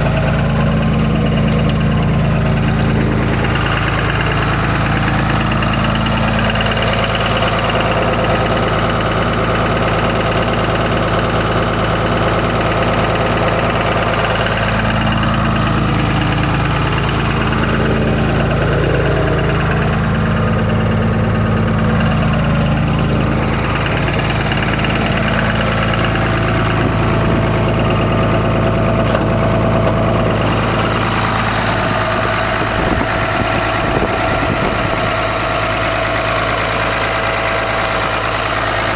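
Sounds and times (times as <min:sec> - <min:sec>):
diesel engine idling with knock: 0:00.0 - 0:38.9.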